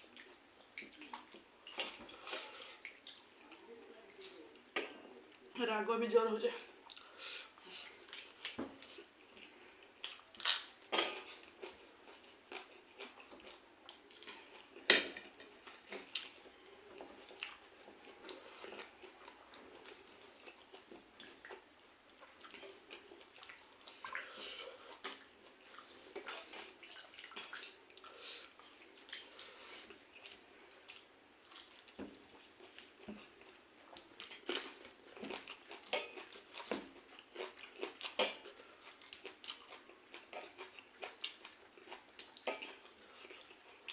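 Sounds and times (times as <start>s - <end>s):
person chewing food: 0.0s - 5.5s, 6.8s - 43.9s.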